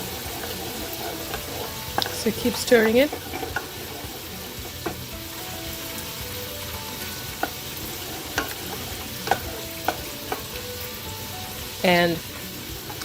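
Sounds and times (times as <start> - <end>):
sauce sizzling in a pan: 0.0 - 13.0
spoon knocking against pan: 0.2 - 10.6.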